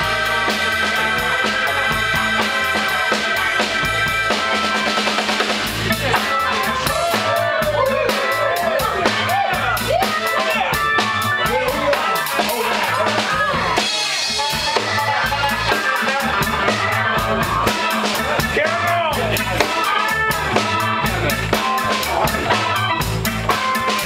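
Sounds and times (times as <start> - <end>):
drum kit beat: 0.0 - 24.0
live rock band playing: 0.0 - 24.0.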